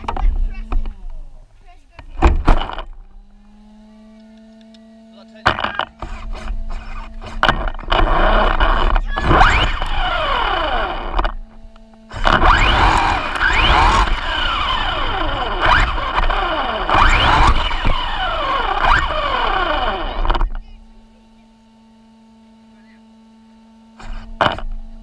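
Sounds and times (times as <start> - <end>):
rc car motor whining: 0.0 - 25.0.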